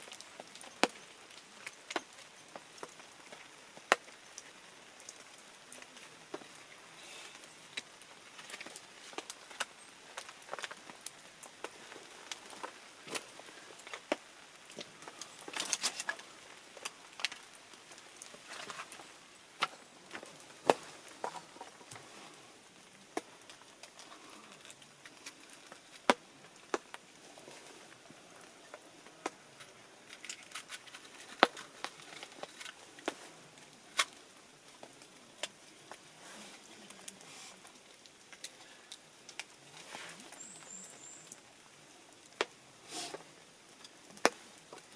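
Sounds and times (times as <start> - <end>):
campfire crackling and popping: 0.0 - 44.9
faint hiss: 0.0 - 44.9.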